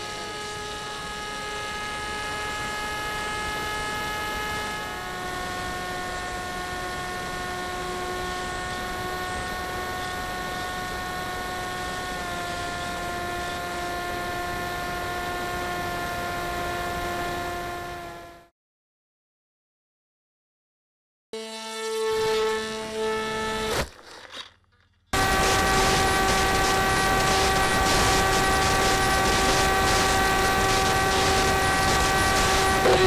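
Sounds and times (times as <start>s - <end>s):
electric motor whine: 0.0s - 18.5s, 21.4s - 23.9s, 25.2s - 33.0s.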